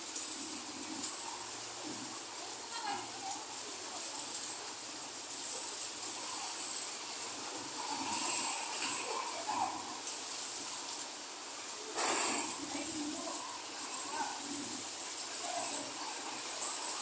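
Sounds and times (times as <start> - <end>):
rain hissing: 0.0 - 17.0
insects chirring: 1.1 - 17.0.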